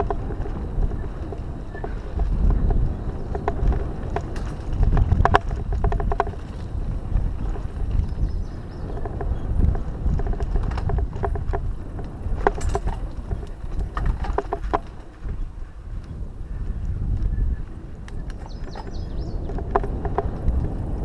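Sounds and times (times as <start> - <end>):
bike clicking and rattling: 0.0 - 21.0
tyres rumbling on dirt: 0.0 - 21.0
wind over microphone: 0.0 - 21.0.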